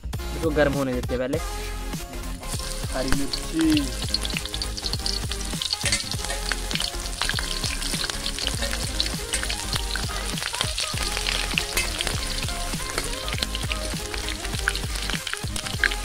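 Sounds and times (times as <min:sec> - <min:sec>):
chillies sizzling in hot oil: 0:02.2 - 0:16.0
steel spoon stirring in pan: 0:02.4 - 0:16.0.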